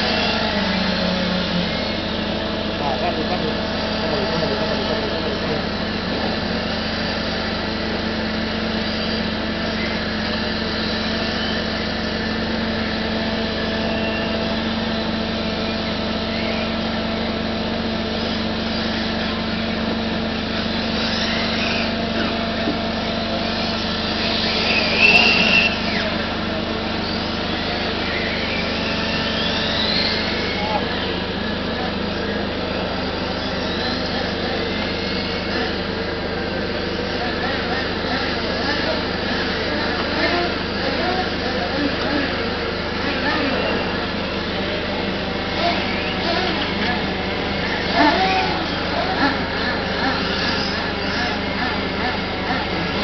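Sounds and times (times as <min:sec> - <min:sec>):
model car motors whining: 0:00.0 - 0:53.0
steady hum: 0:00.0 - 0:53.0.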